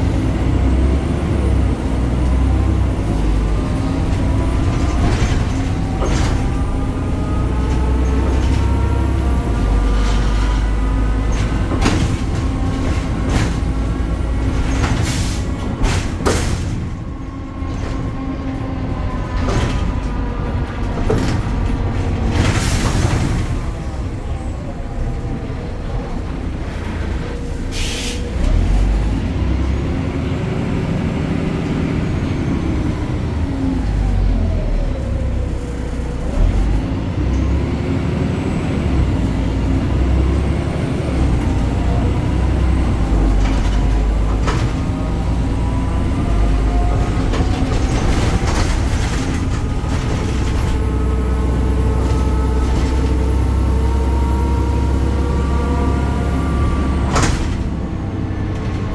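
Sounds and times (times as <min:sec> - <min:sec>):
bus engine rumble: 0:00.0 - 0:58.9.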